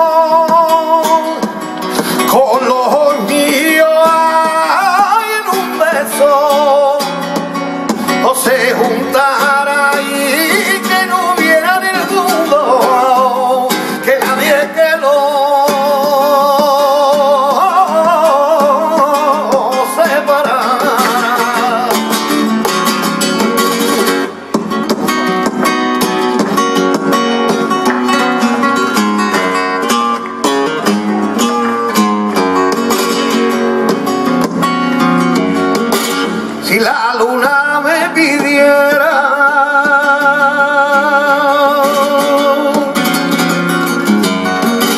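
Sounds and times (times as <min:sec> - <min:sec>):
flamenco guitar strumming: 0:00.0 - 0:44.9
man singing flamenco: 0:00.0 - 0:44.9.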